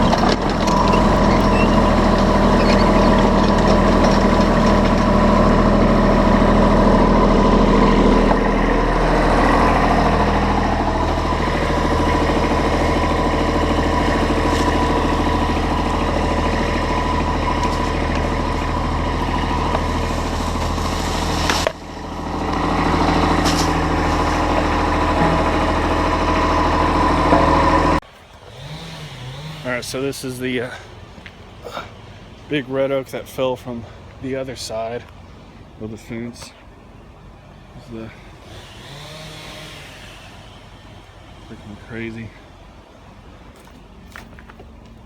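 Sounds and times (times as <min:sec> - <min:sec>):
heavy machine engine running: 0:00.0 - 0:32.5, 0:36.8 - 0:45.0.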